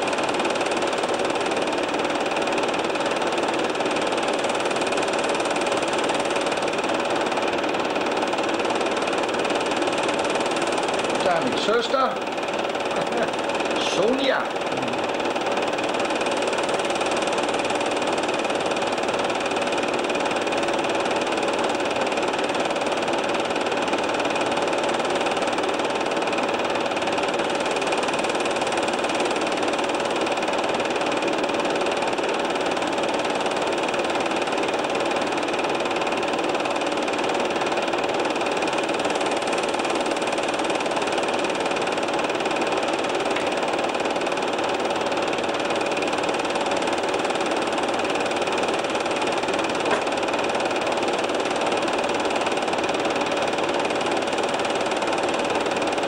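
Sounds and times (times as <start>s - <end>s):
film projector whirring and clattering: 0.0s - 56.0s.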